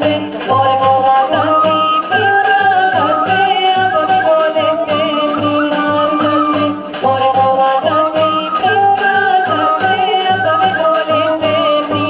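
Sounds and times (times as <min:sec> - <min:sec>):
woman singing folk song: 0:00.0 - 0:12.0.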